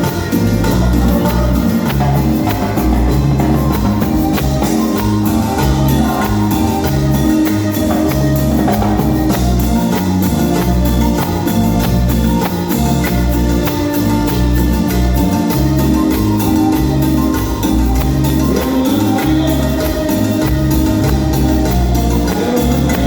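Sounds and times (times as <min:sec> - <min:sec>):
drum beat: 0:00.0 - 0:23.0
repeating bass line: 0:00.0 - 0:23.0.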